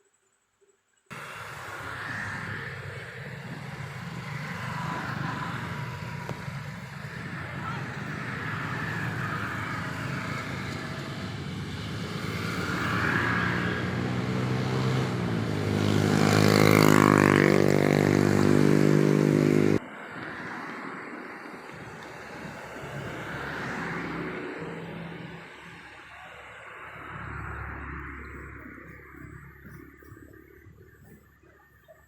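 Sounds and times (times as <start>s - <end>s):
faint traffic hum: 1.1s - 32.0s
vehicle engine passing by: 1.1s - 32.0s.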